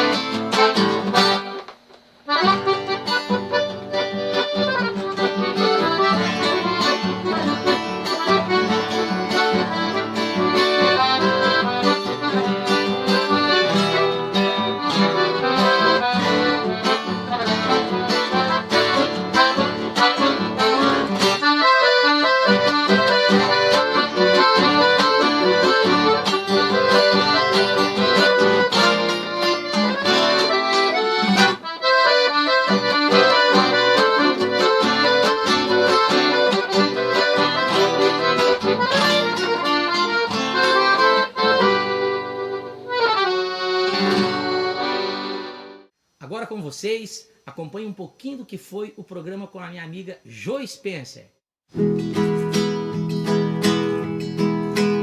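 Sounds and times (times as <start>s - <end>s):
guitar strummed and plucked: 0.0s - 45.9s, 51.7s - 55.0s
accordion tune: 0.0s - 46.0s, 51.7s - 55.0s.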